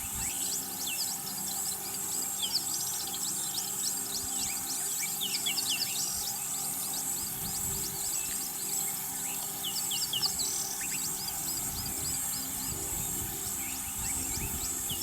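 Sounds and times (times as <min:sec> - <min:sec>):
birds chirping: 0:00.0 - 0:15.0
steady background noise: 0:00.0 - 0:15.0.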